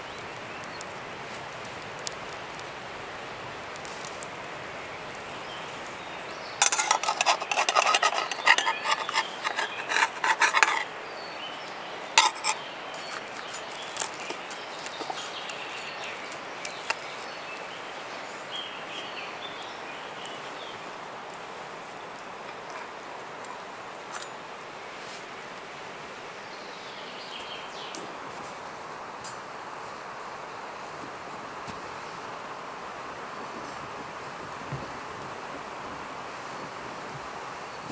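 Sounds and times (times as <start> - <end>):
steady background hiss: 0.0 - 37.9.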